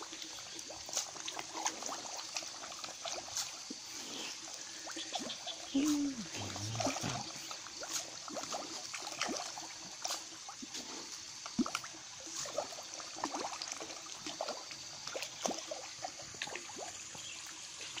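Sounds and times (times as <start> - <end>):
fish splashing and slurping: 0.0 - 18.0.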